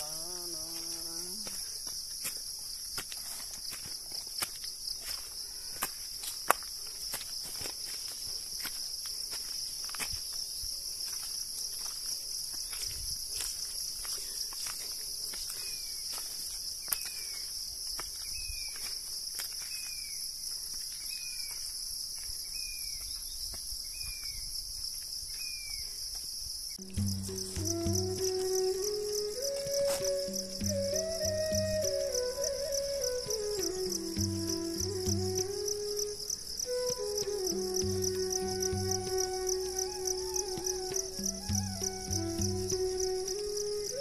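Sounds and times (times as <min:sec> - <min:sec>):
footsteps on hillside path: 0:00.0 - 0:44.0
shrill insect chorus: 0:00.0 - 0:44.0.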